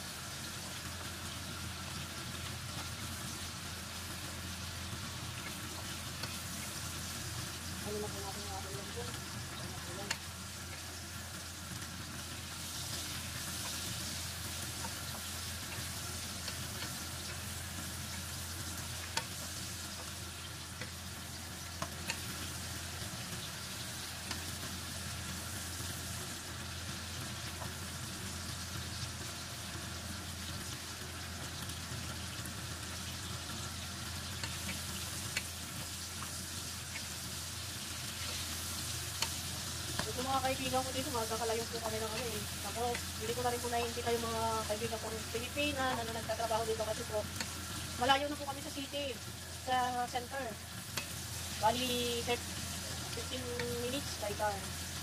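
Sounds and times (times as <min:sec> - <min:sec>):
meat sizzling in a wok: 0:00.0 - 0:55.0.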